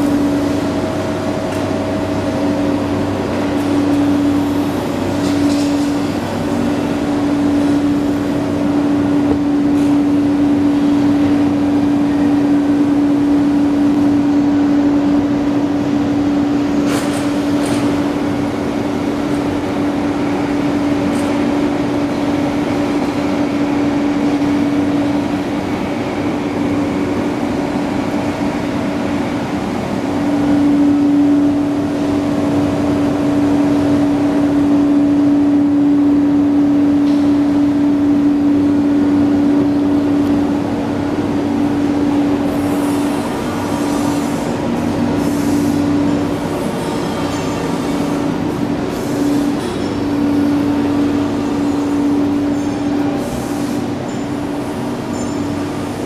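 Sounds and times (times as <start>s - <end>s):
heavy machinery electric hum: 0.0s - 56.0s.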